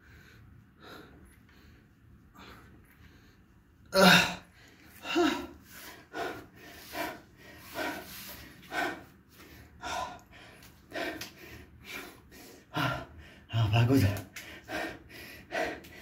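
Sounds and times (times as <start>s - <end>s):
man breathing hard: 0.0s - 13.5s, 14.4s - 16.0s.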